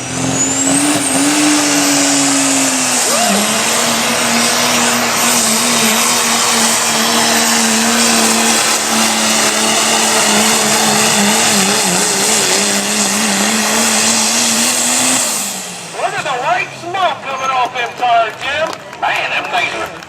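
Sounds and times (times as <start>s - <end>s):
spinning tires hissing: 0.0s - 16.6s
diesel engine at full throttle: 0.0s - 20.0s.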